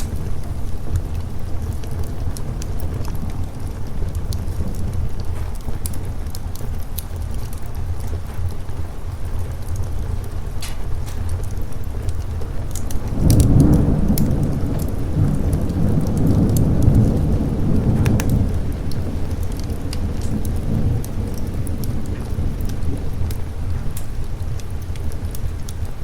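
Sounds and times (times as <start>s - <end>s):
sharp crackles: 0.0s - 26.0s
steady rain: 0.0s - 26.0s
thunder rumbling: 0.0s - 26.0s.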